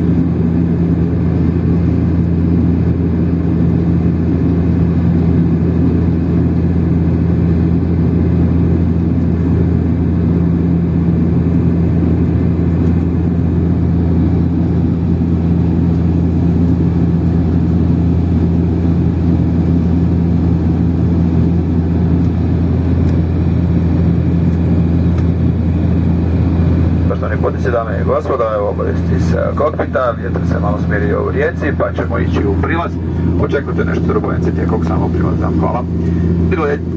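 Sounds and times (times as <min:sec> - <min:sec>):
airliner cabin drone: 0:00.0 - 0:36.9.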